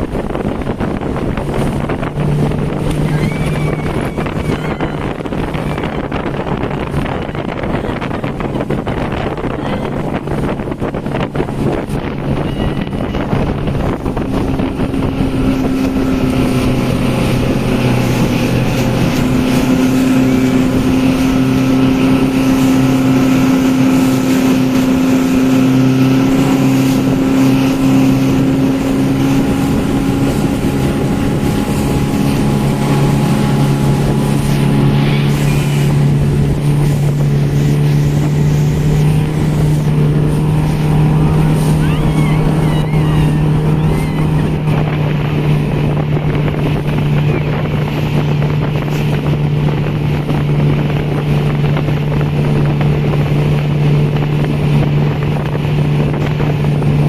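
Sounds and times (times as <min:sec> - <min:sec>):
rushing water noise: 0:00.0 - 0:57.0
speedboat engine running: 0:00.0 - 0:57.0.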